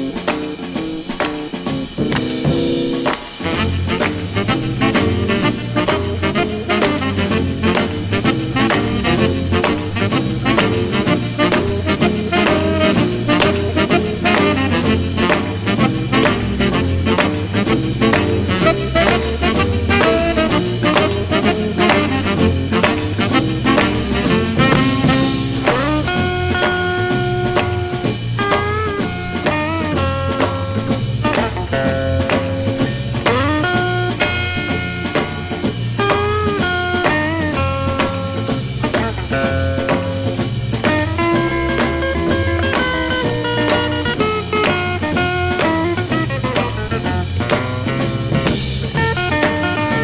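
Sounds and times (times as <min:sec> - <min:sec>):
drum kit beat: 0:00.0 - 0:50.0
lead melody with bending notes: 0:02.4 - 0:50.0.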